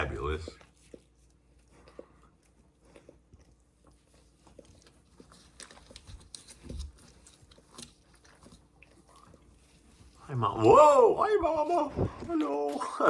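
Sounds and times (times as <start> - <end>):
dog licking and chewing: 0.0 - 10.8
small rustles: 0.4 - 12.7.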